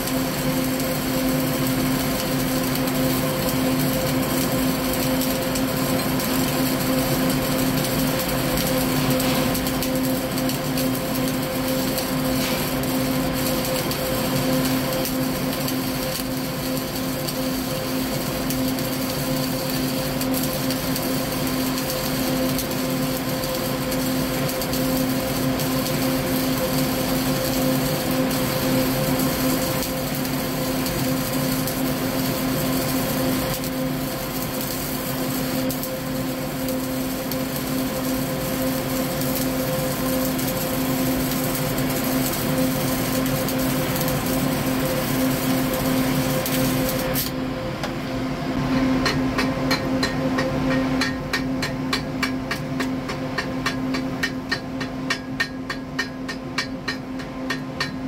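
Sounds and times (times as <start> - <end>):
hissing welding arc: 0.0 - 47.4
constant hum: 0.0 - 58.0.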